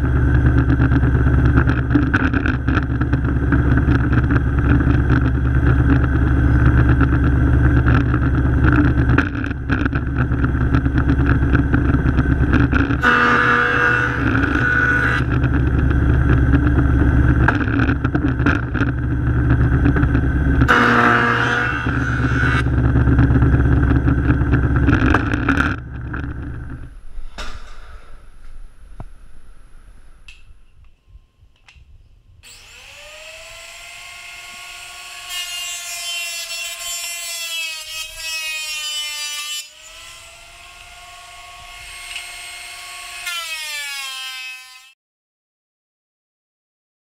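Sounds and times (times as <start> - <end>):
jointer motor humming: 0.0 - 26.9, 32.4 - 38.3, 39.2 - 44.9
board cutting on jointer: 0.4 - 26.5, 32.4 - 45.0.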